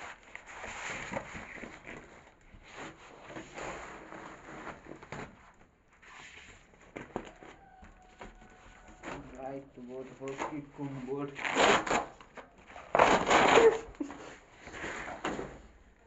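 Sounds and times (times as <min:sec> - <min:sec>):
cardboard rustling and scraping: 0:00.0 - 0:16.0.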